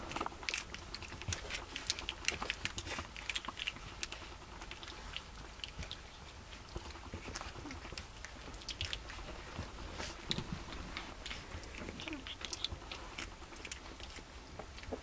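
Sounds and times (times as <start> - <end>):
puppies scuffling and play-biting: 0.0 - 15.0.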